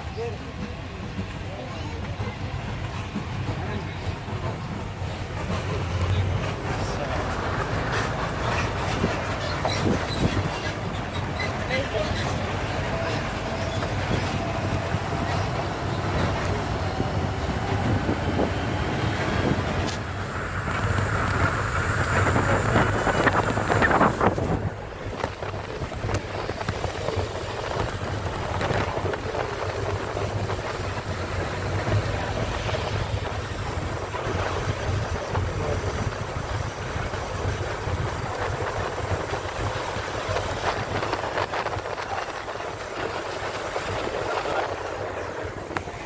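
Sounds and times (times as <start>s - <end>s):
engine and road hum: 0.0s - 46.0s
wind and tyre noise: 0.0s - 46.0s.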